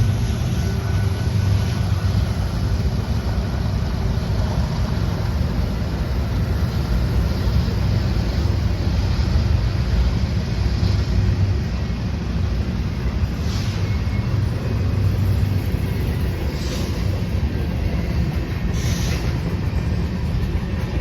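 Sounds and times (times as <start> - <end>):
train rumbling past: 0.0 - 21.0
wheel and rail noise: 0.0 - 21.0.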